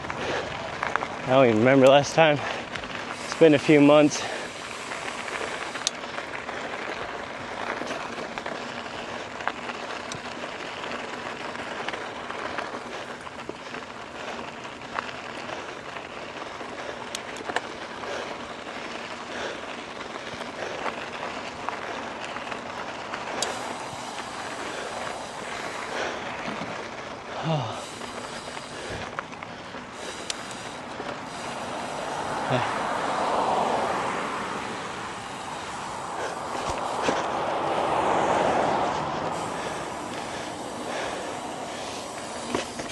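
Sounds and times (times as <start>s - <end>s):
bike clicks and rattles: 0.0s - 42.9s
tyre and wind noise: 0.0s - 42.9s.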